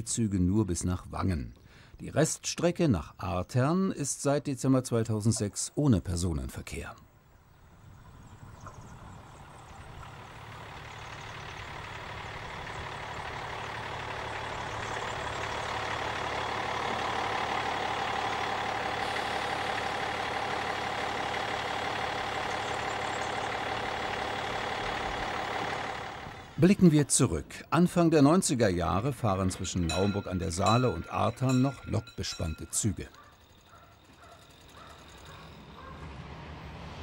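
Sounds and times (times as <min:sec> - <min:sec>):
diesel railcar engine and wheels: 0:00.0 - 0:37.0.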